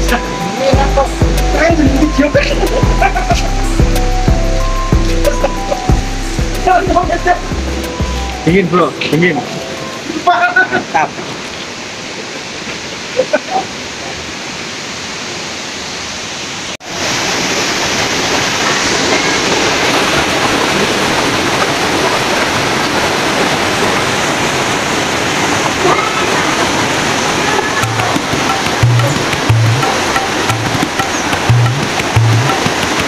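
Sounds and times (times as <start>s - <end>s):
fast-flowing mountain stream: 0.0s - 33.0s.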